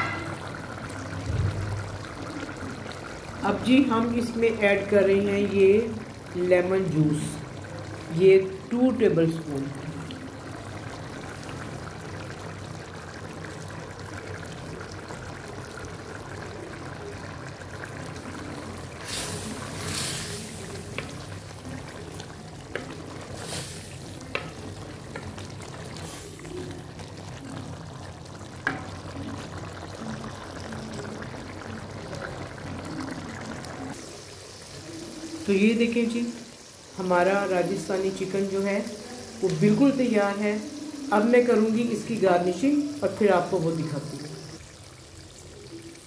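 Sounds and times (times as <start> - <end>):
curry bubbling and sizzling: 0.0 - 46.0.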